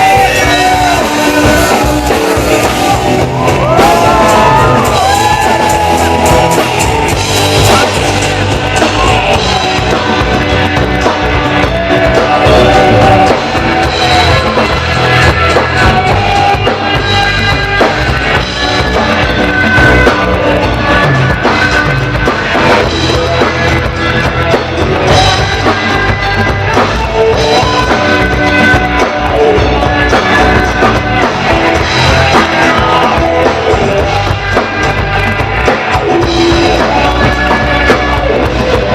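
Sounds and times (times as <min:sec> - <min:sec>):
rock music with drums and guitar: 0:00.0 - 0:38.9.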